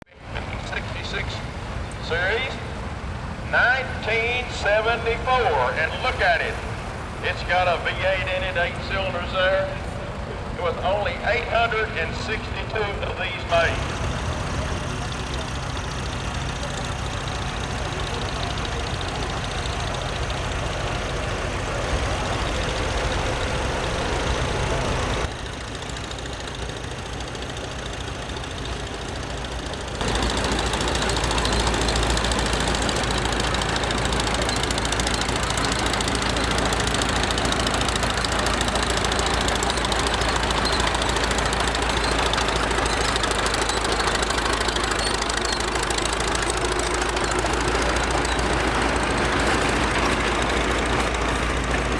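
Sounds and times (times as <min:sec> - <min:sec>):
tractor engines driving past: 0:00.0 - 0:51.9.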